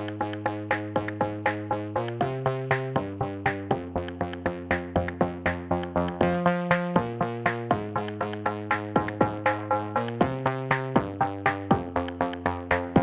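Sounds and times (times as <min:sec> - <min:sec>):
drum-machine beat: 0:00.0 - 0:13.0
synthesizer chords: 0:00.0 - 0:13.0.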